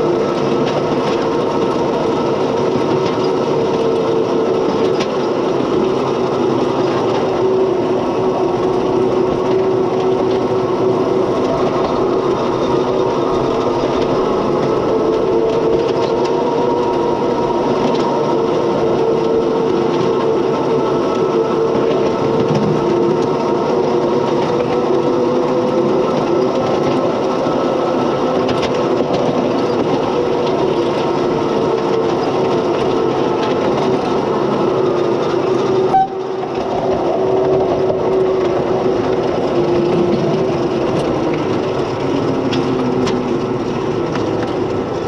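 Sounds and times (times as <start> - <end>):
constant hum: 0.0 - 45.0
miniature locomotive running on rails: 0.0 - 45.0.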